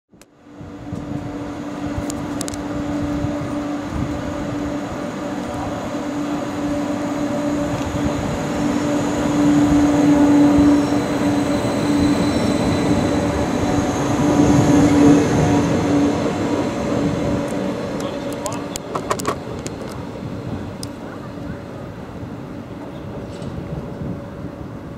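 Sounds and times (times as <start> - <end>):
electric train hum: 0.1 - 24.9
train wheels rumbling: 0.3 - 24.9.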